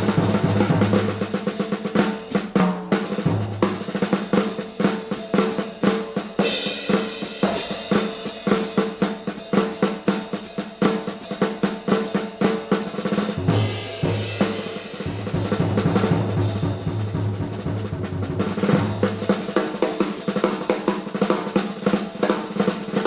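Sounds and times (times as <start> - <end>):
jazz drum kit playing: 0.0 - 23.0.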